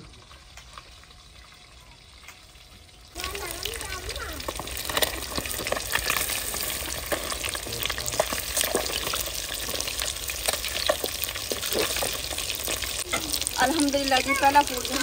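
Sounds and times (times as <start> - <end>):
fish sizzling in a pan: 0.0 - 15.0.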